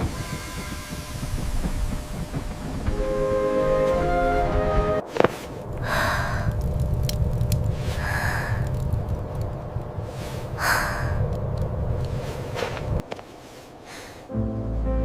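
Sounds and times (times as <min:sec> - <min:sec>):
train rumbling: 0:00.0 - 0:14.3.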